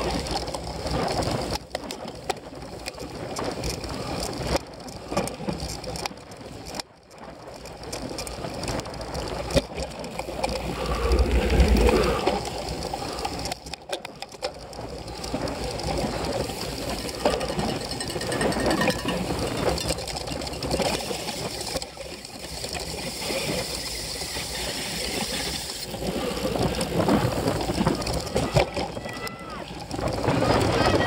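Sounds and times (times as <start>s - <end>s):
bike rattling over bumpy grass: 0.0s - 31.0s.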